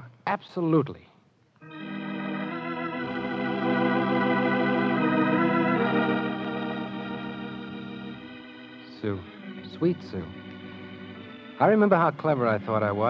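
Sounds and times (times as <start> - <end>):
organ playing held chords: 1.6 - 13.0.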